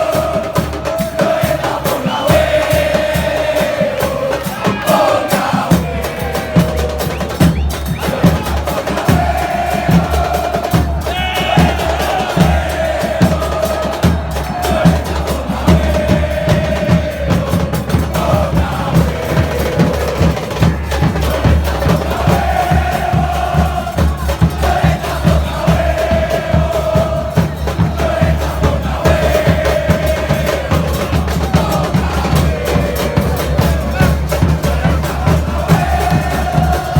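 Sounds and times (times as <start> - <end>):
crowd chanting in unison: 0.0 - 36.9
drums beating: 0.0 - 36.9.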